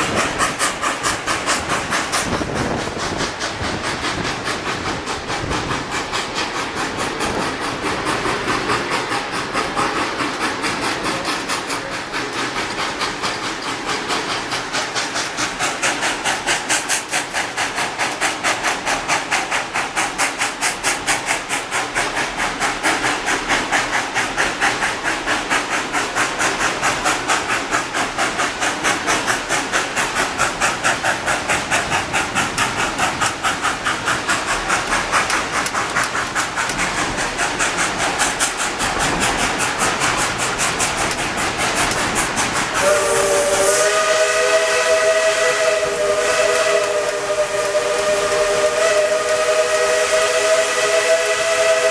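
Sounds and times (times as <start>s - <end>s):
steam hissing: 0.0s - 51.9s
steam locomotive chuffing: 0.0s - 51.9s.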